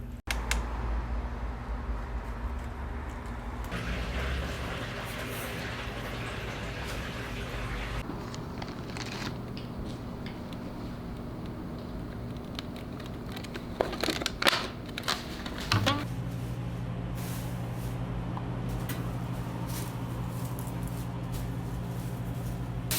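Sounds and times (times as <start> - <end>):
machine hum: 3.6 - 22.9.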